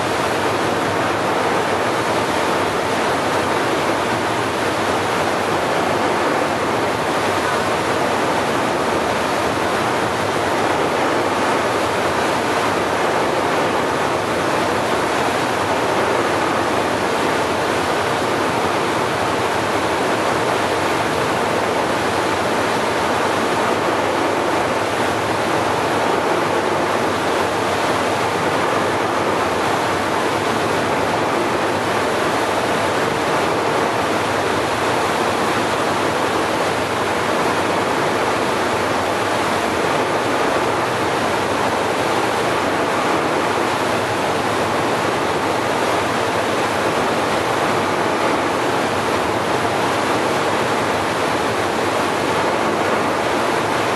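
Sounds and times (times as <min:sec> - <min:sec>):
steady rushing noise: 0:00.0 - 0:53.9.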